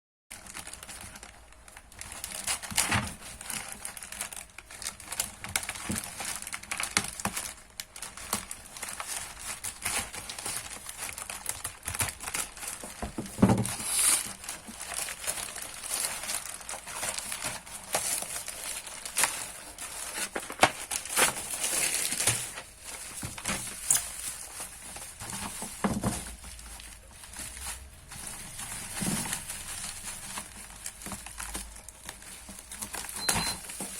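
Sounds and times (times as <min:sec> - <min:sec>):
packaging crinkling and tearing: 0:00.3 - 0:33.9.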